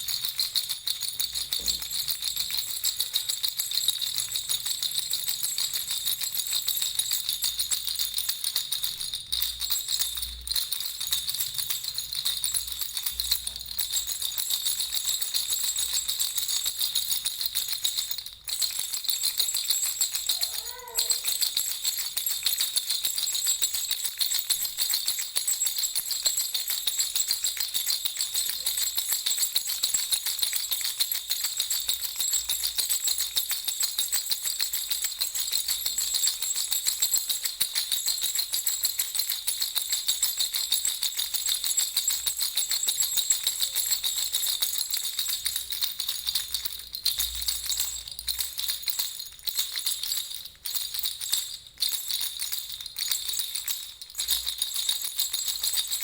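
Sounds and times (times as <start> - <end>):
baby rattle jingling: 0.0 - 56.0.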